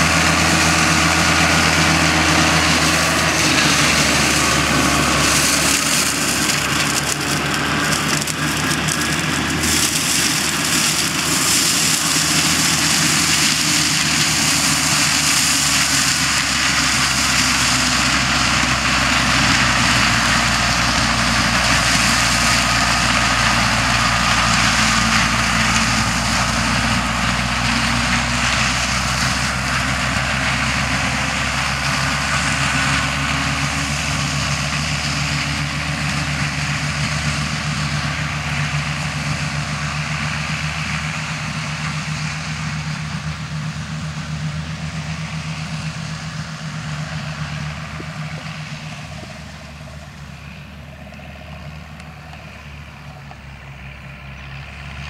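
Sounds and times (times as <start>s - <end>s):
mulcher shredding stalks: 0.0s - 55.0s
tractor diesel engine running: 0.0s - 55.0s.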